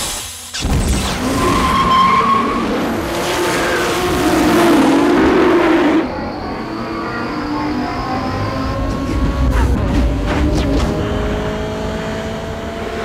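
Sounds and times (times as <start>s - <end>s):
car engine revving hard: 1.2s - 6.3s, 7.4s - 13.0s.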